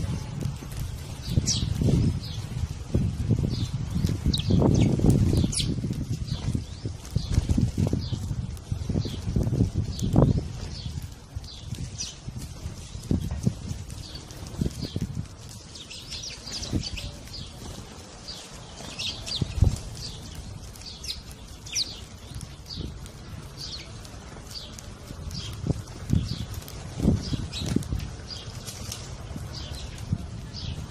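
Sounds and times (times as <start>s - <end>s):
sparrows chirping: 0.0s - 30.9s
wings fluttering: 0.0s - 30.9s.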